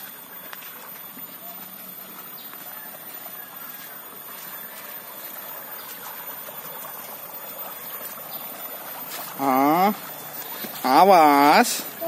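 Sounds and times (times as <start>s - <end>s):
water rushing down channel: 1.9s - 12.0s.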